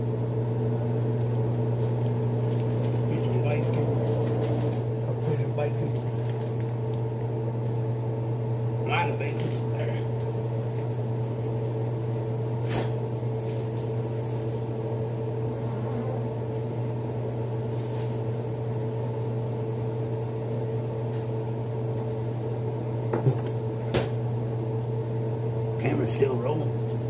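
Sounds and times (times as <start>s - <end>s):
appliance electrical hum: 0.0s - 27.0s.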